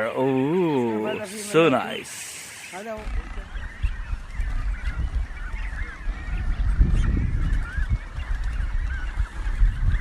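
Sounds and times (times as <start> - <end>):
bird colony calling: 0.0 - 10.0.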